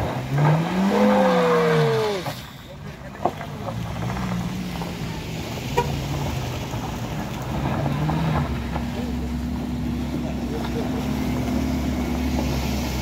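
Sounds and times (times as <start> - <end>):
car engine climbing dirt road: 0.0 - 13.0
second suv engine approaching: 0.0 - 13.0.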